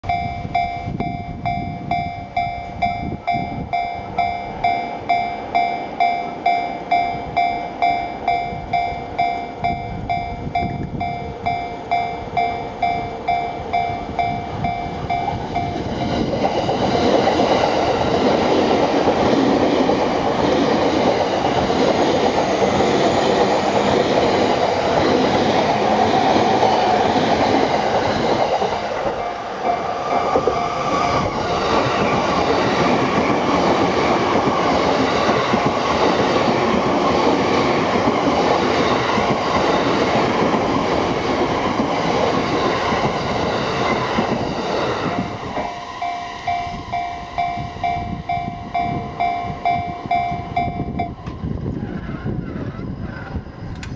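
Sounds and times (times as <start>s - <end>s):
level-crossing alarm bell: 0.0s - 51.6s
train wheels on rails: 0.0s - 53.9s.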